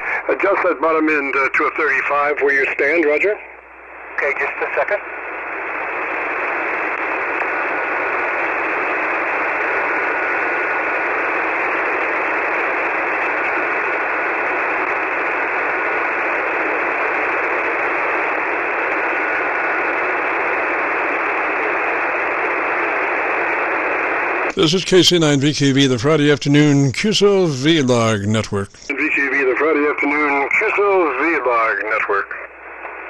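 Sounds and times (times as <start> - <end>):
radio static hiss: 0.0 - 33.0.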